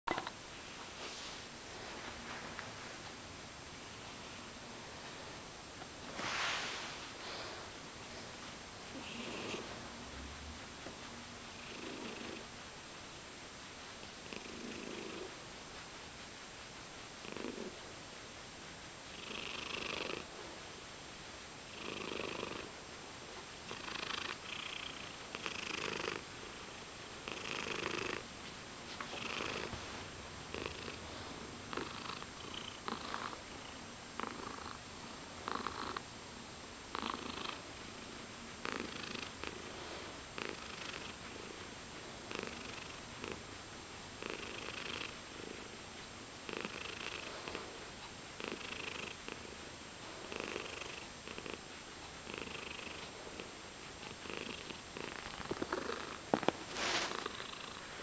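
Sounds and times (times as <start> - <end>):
cat purring: 6.0 - 13.2, 13.8 - 18.0, 19.0 - 20.6, 21.6 - 36.1, 36.9 - 58.0.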